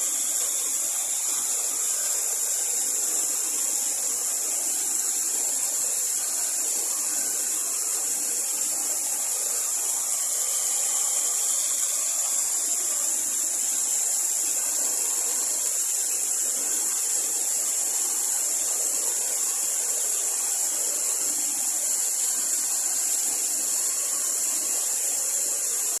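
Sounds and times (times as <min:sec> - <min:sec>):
waterfall rushing water: 0:00.0 - 0:26.0.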